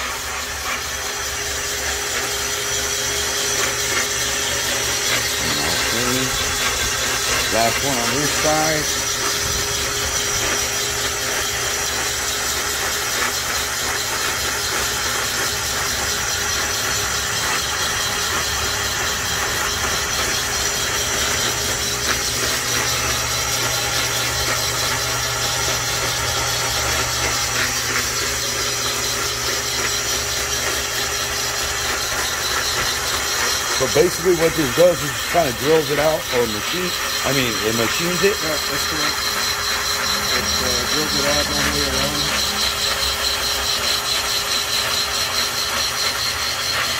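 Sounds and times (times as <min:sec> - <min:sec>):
boring bar humming and whining: 0:00.0 - 0:46.9.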